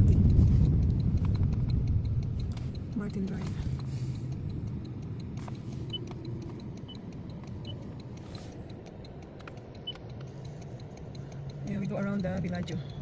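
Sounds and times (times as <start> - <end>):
faint regular ticking: 0.0 - 13.0
road and engine rumble: 0.0 - 13.0.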